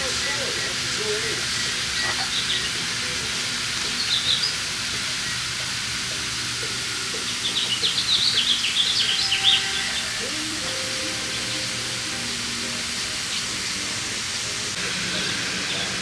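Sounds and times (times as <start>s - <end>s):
parrots chirping: 0.0s - 13.9s, 14.8s - 16.0s
shower spray hissing: 0.0s - 16.0s.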